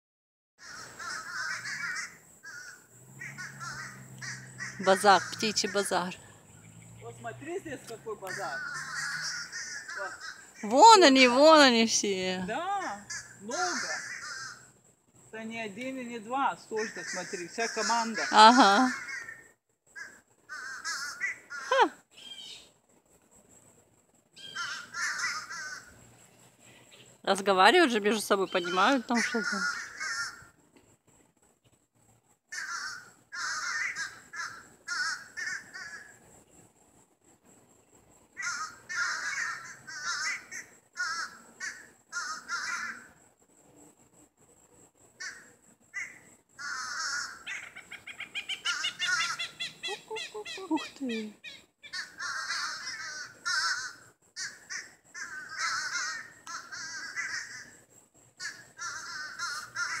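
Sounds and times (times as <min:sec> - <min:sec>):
birds calling: 0:00.6 - 0:14.8, 0:16.6 - 0:22.7, 0:24.4 - 0:30.6, 0:32.5 - 0:36.2, 0:38.4 - 0:43.1, 0:45.2 - 0:57.7, 0:58.4 - 1:00.0.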